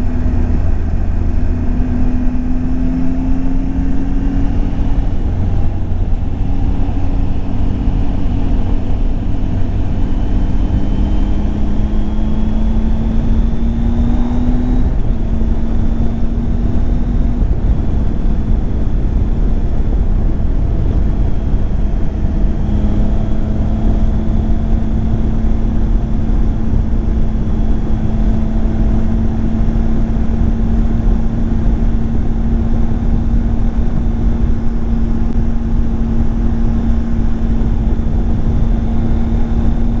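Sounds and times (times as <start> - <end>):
wind and road noise: 0.0 - 40.0.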